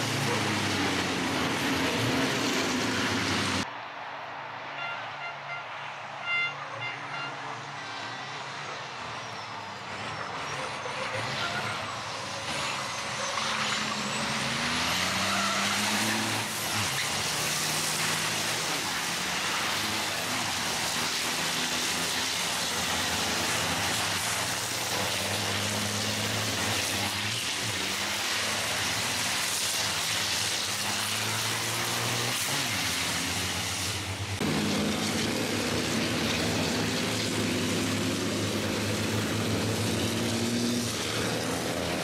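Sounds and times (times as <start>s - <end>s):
racing truck engines passing: 0.0s - 42.0s.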